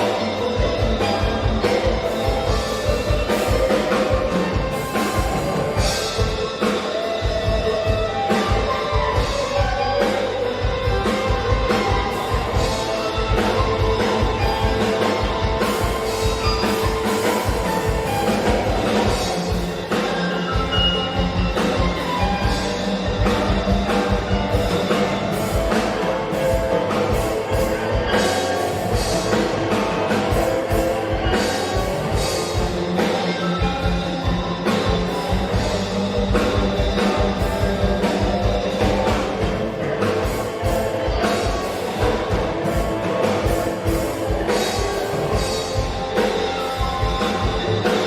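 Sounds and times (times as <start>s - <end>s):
drum kit beat: 0.0s - 48.0s
instrumental band music: 0.0s - 48.0s.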